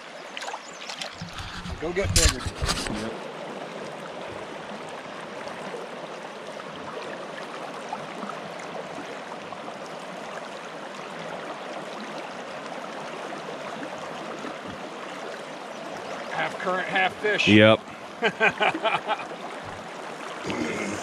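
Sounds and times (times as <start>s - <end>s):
river current flowing: 0.0s - 21.0s.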